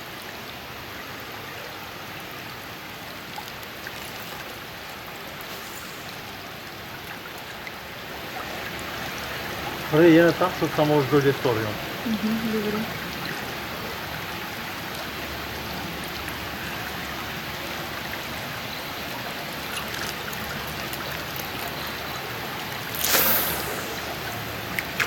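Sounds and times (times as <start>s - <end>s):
river water rushing: 0.6s - 10.8s, 12.8s - 25.0s.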